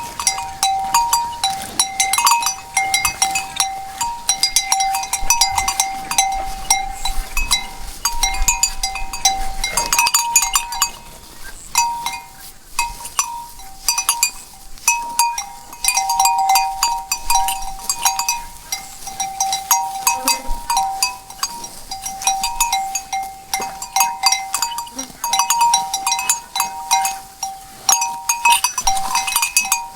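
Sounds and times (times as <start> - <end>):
cow bells clanking: 0.0 - 29.9.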